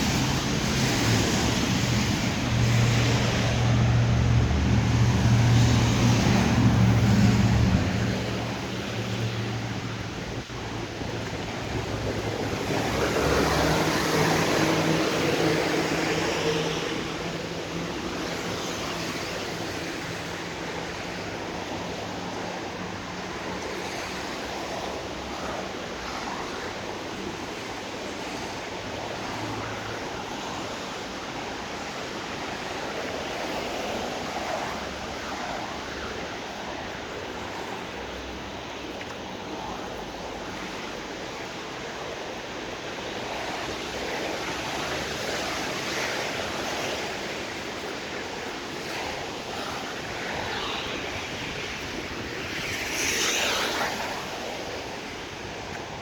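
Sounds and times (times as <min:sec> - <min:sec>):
tyres hissing on wet road: 0:00.0 - 0:56.0.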